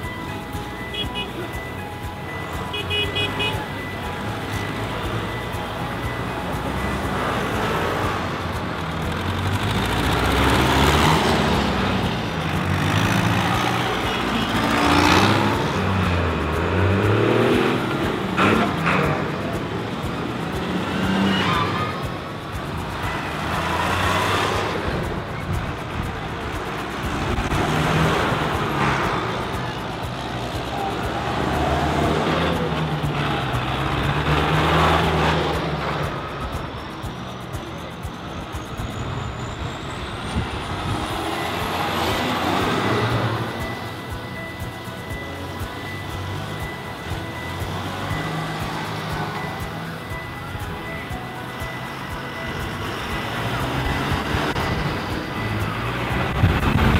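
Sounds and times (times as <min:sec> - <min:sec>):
tractor diesel engines passing: 0:00.0 - 0:56.9.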